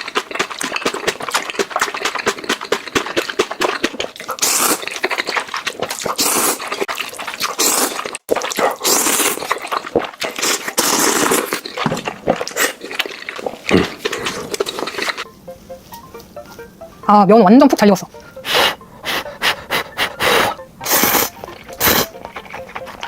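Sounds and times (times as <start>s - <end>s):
slurping noodles: 0.0s - 15.3s, 18.4s - 23.0s
wet chewing and smacking: 0.0s - 16.8s, 18.2s - 23.0s.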